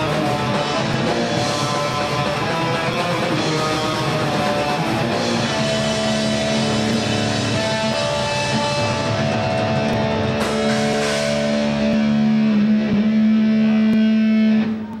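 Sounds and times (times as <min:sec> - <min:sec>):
distorted electric guitars: 0:00.0 - 0:15.0.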